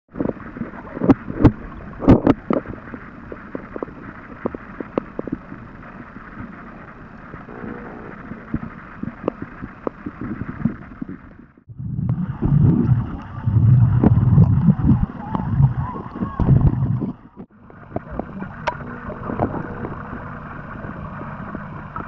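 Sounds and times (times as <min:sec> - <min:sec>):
muffled underwater water rush: 0:00.1 - 0:22.0.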